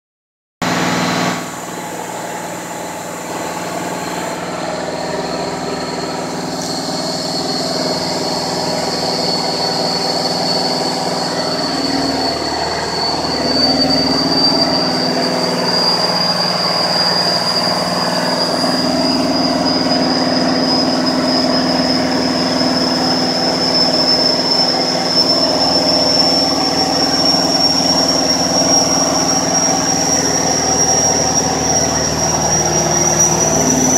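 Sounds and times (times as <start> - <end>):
diesel engine running: 0.6 - 33.9
high rising whine: 0.6 - 33.9.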